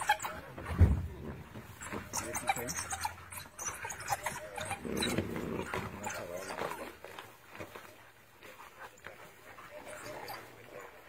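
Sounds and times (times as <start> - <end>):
animals yelping and squealing: 0.0 - 7.9, 8.6 - 11.0.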